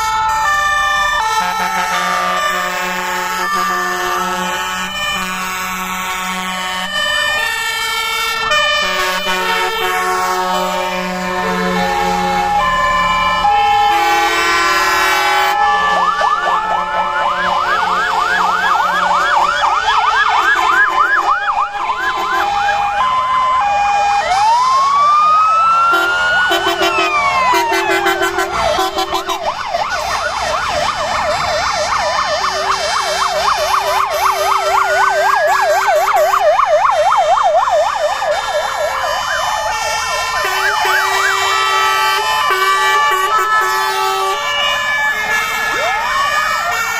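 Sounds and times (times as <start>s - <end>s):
fire engine sirens: 0.0s - 46.9s.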